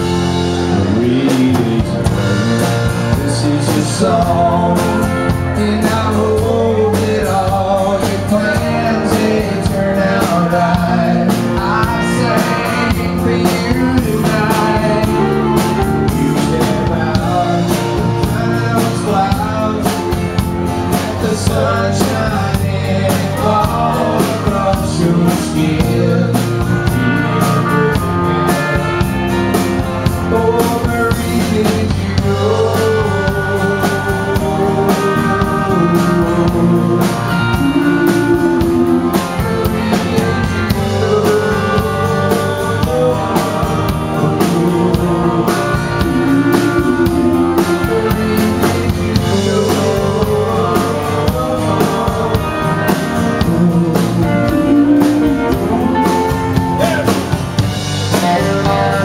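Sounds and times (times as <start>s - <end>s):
live country band: 0.0s - 59.0s
man singing: 0.0s - 59.0s.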